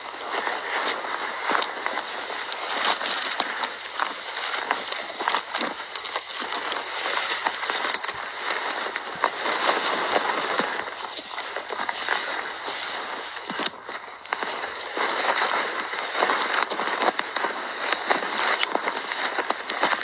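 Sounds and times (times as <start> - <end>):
footsteps through dry brush: 0.0 - 20.0
twigs snapping: 0.2 - 20.0.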